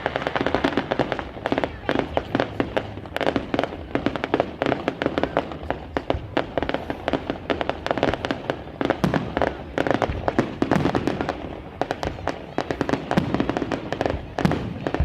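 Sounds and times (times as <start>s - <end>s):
fireworks crackling and banging: 0.0s - 15.0s.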